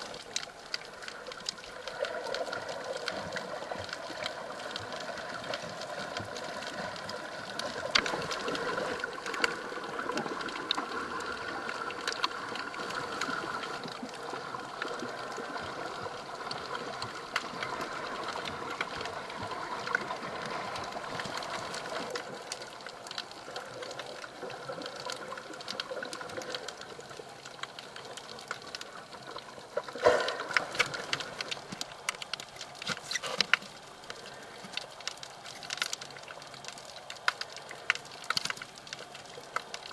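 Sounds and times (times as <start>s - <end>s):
rush of water: 0.0s - 39.9s
sharp clicks and crackles: 0.0s - 39.9s.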